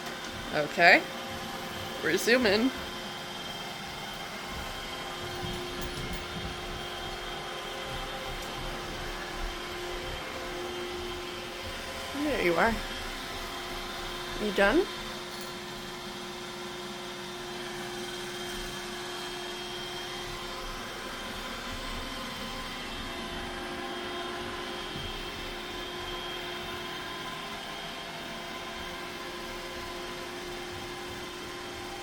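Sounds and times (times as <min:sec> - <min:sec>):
mechanical hum with tones: 0:00.0 - 0:32.0.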